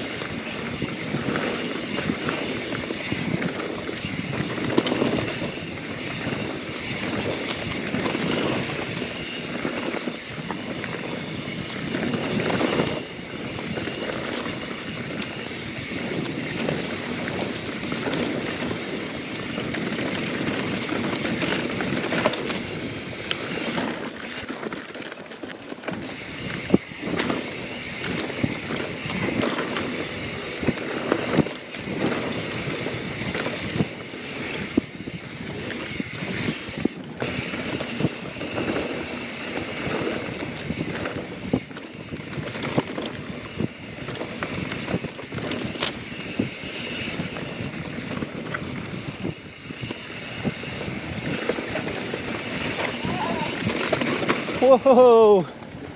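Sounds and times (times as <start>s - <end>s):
bike and chain rattling: 0.0s - 55.9s
tyres rolling over dirt and rock: 0.0s - 55.9s.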